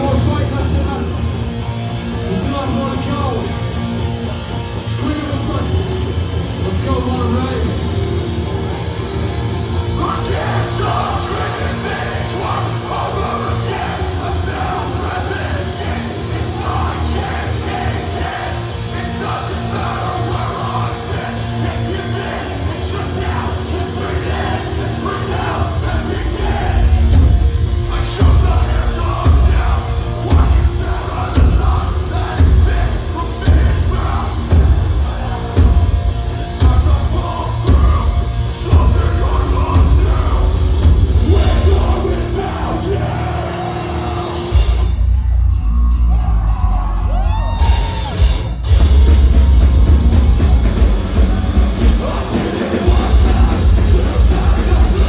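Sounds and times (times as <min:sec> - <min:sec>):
heavy rock band playing live: 0:00.0 - 0:55.0.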